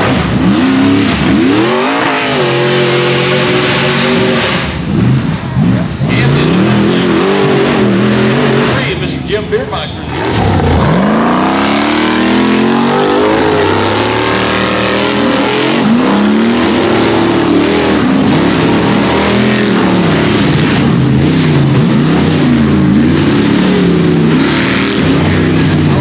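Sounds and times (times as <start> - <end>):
buggy engine revving hard: 0.0 - 26.0.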